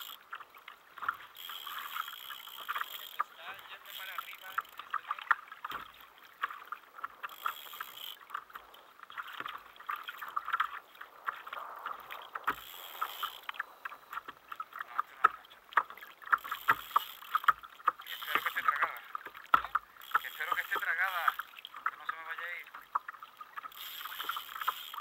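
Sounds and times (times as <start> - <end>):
water lapping against kayak hull: 0.0 - 25.0.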